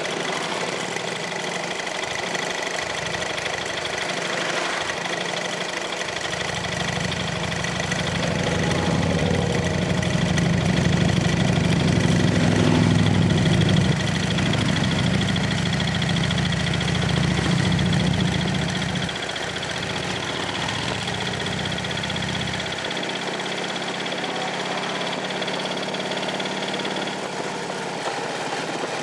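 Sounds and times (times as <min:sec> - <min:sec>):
motorcycle engines rumbling: 0:00.0 - 0:29.0.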